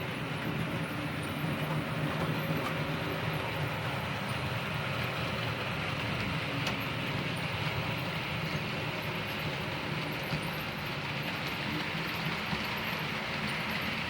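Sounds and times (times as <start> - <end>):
model train motor hum: 0.0 - 14.0
wheel and rail noise: 0.0 - 14.0.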